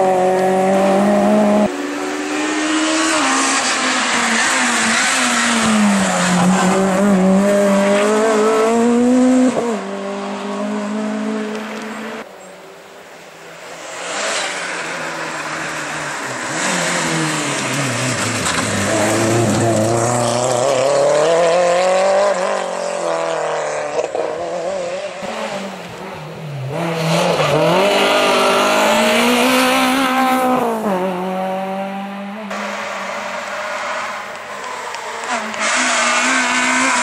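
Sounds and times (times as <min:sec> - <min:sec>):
rally car engines accelerating: 0:00.0 - 0:12.3, 0:13.8 - 0:37.0.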